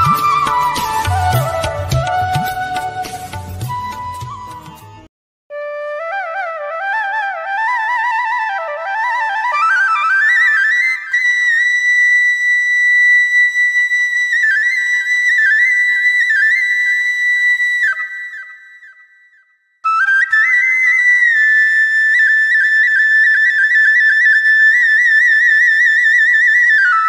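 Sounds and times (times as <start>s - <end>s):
flute melody with trills: 0.0s - 27.0s.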